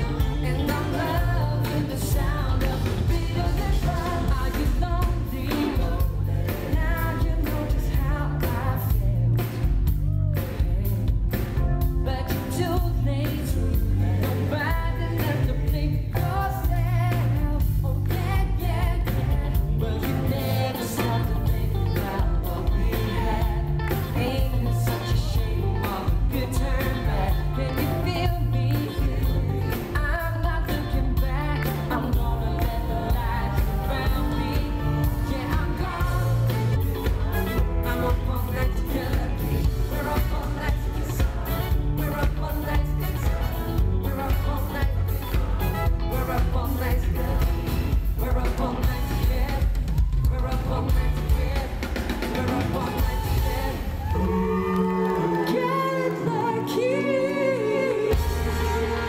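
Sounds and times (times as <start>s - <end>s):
male vocal group singing: 0.0s - 9.7s, 12.3s - 59.0s
pop backing band: 0.0s - 59.0s.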